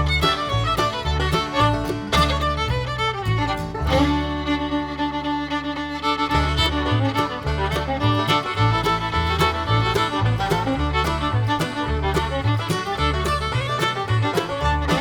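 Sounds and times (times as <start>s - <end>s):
upbeat fiddle tune with beat: 0.0s - 15.0s.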